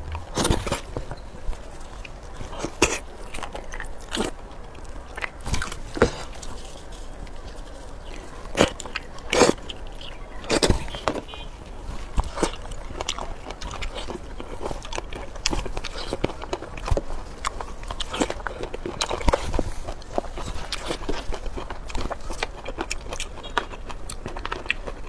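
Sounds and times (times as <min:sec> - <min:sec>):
crunchy bites: 0:00.0 - 0:01.1, 0:02.0 - 0:11.4, 0:12.0 - 0:25.0
chewing seafood: 0:00.0 - 0:25.0.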